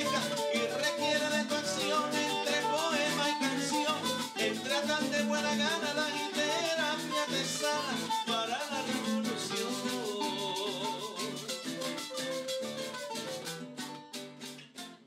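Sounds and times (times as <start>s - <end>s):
upbeat salsa dance music: 0.0s - 14.3s.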